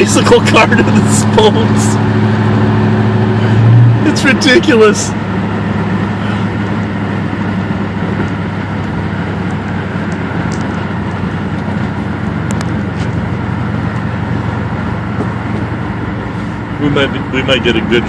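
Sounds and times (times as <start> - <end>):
engine and road drone: 0.0 - 18.0
exhaust leak flapping: 0.0 - 18.0.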